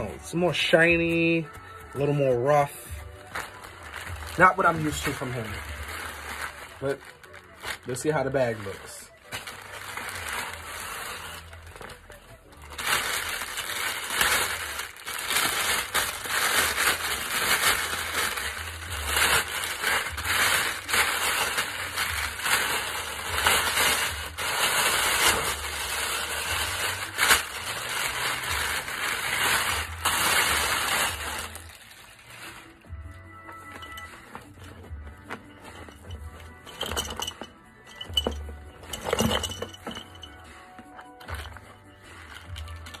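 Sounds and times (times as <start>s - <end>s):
plastic bag crinkling: 0.0s - 43.0s.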